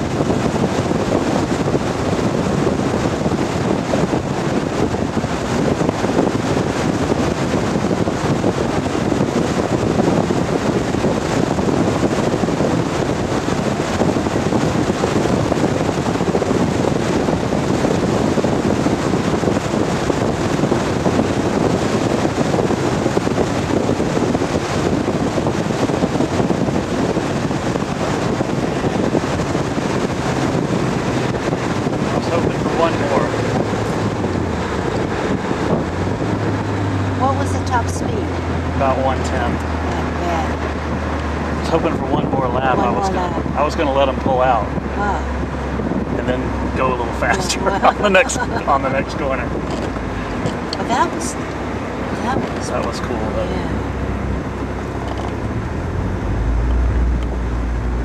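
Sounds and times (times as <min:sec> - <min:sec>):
car engine running: 0:00.0 - 0:58.0
wind noise: 0:00.0 - 0:58.0.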